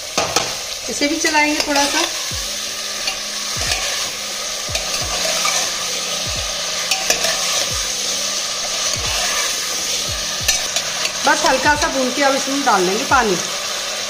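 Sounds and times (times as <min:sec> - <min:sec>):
frying sizzle: 0:00.0 - 0:14.0
metal spoon stirring in pot: 0:00.2 - 0:12.0.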